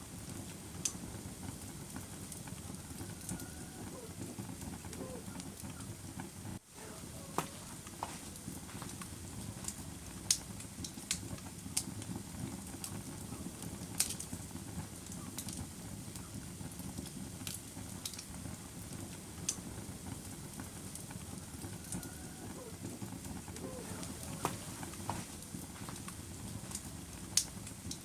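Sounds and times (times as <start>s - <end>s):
fire crackling and popping: 0.0s - 28.0s
low rush of flames: 0.0s - 28.0s.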